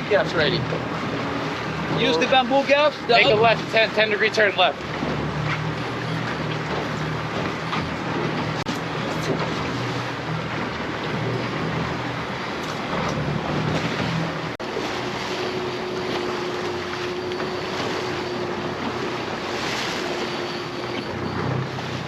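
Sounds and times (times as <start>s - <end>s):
boat engine running: 0.0s - 22.0s
water rushing: 0.0s - 22.0s.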